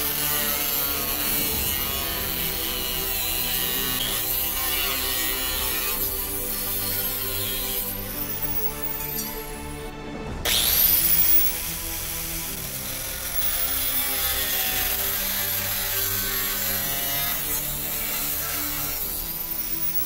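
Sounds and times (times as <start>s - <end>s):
angle grinder grinding steel: 0.0s - 20.0s.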